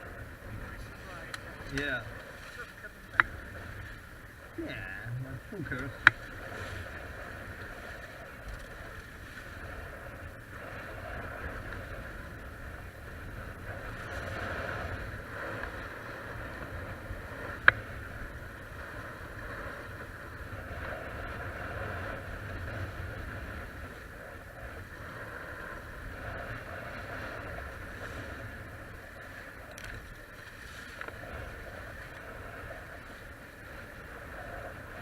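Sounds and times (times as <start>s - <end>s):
water rushing along hulls: 0.0s - 35.0s.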